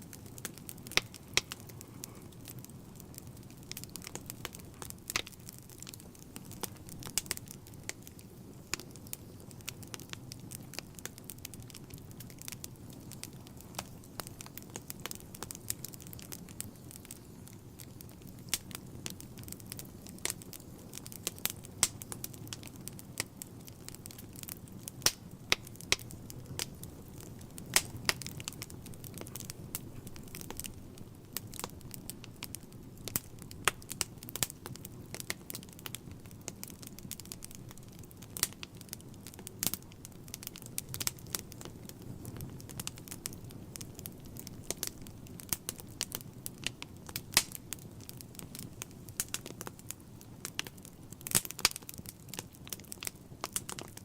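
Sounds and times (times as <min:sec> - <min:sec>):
wood fire burning and crackling: 0:00.0 - 0:54.0.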